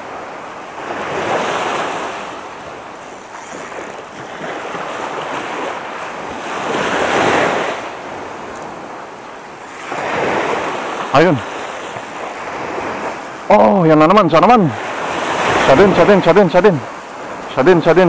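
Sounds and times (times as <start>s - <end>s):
small waves washing on sand: 0.0s - 18.0s.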